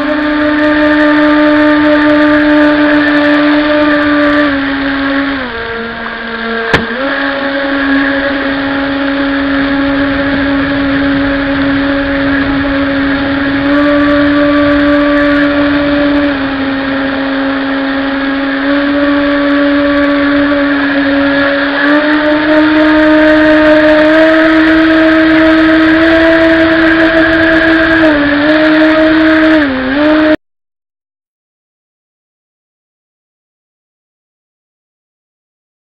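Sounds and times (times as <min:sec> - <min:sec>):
jet boat motor whine: 0:00.0 - 0:30.4.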